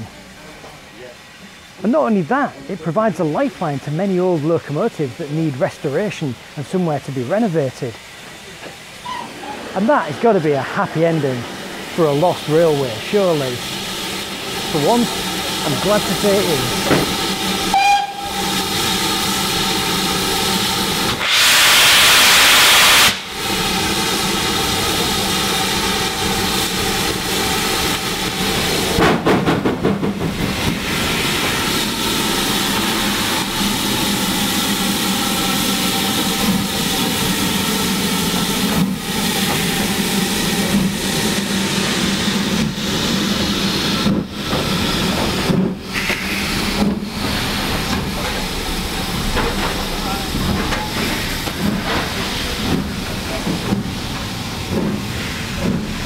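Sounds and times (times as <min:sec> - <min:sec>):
steam locomotive hissing: 0:00.0 - 0:56.0
loud blast of escaping steam: 0:03.6 - 0:29.6, 0:30.2 - 0:56.0.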